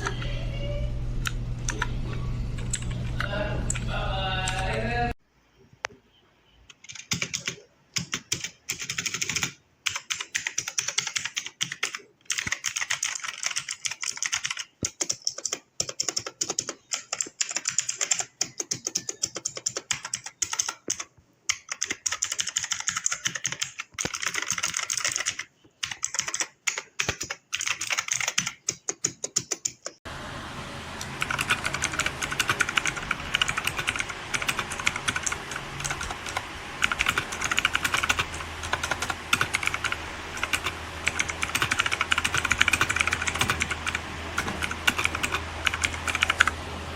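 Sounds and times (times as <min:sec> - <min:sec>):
fast typing on mechanical keyboard: 0:06.7 - 0:30.0, 0:31.2 - 0:46.6.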